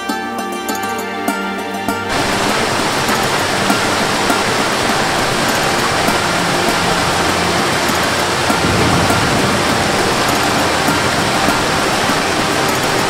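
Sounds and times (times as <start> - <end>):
waterfall rushing over rocks: 2.1 - 13.0.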